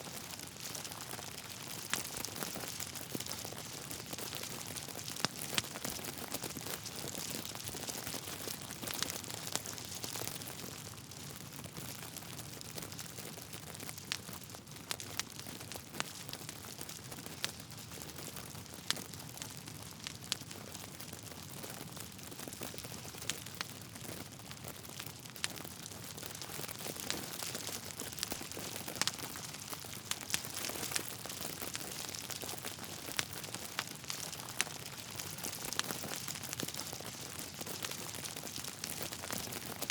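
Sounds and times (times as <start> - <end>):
burning logs crackling: 0.1 - 39.9.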